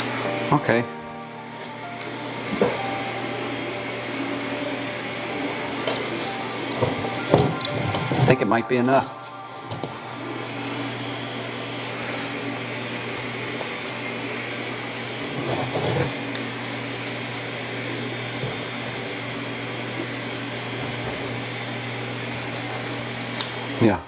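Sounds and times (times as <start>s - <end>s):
small motor whirring: 2.0s - 8.3s, 9.7s - 23.9s.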